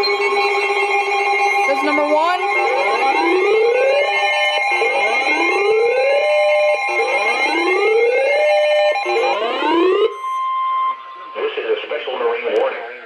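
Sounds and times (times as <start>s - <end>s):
rising siren tones: 0.0s - 12.6s
steady alarm tone: 0.0s - 13.0s.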